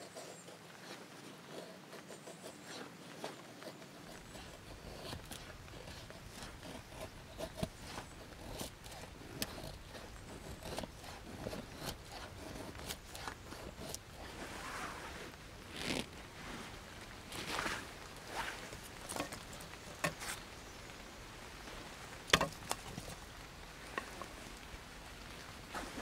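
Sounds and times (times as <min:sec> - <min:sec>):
twigs rustling and snapping: 0:00.0 - 0:14.4, 0:15.3 - 0:21.0, 0:21.6 - 0:26.0.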